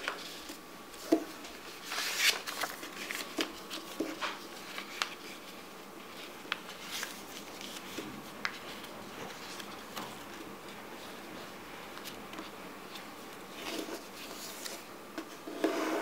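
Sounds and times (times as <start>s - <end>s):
paper crinkling: 0.0s - 14.9s.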